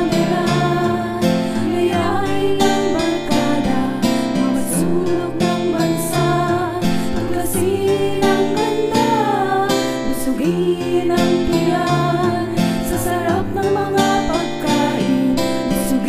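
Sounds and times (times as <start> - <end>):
person singing: 0.0 - 16.0
strummed acoustic guitar: 0.0 - 16.0.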